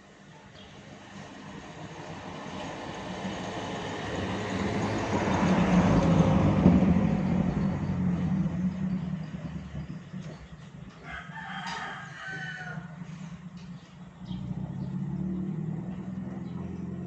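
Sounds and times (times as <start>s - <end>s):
vehicle passing by: 1.0s - 17.0s.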